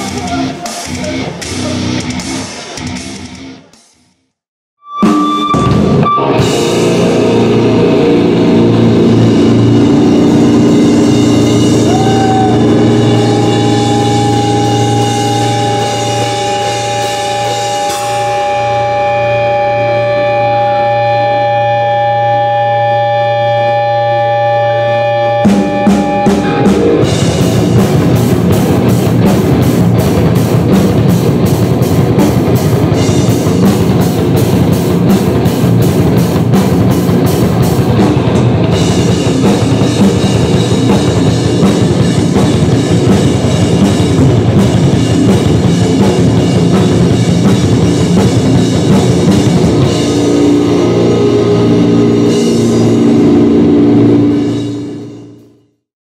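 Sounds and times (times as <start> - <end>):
drum kit: 0.0 - 4.2, 4.9 - 23.2, 24.7 - 55.6
bass guitar: 0.0 - 55.8
electric guitar: 4.8 - 55.8.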